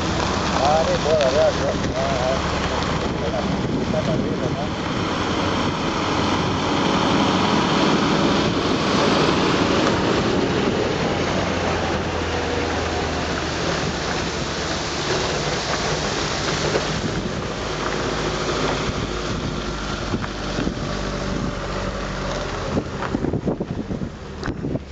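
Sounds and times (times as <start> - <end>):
truck diesel engine running: 0.0 - 24.9
wind noise on microphone: 0.0 - 24.9.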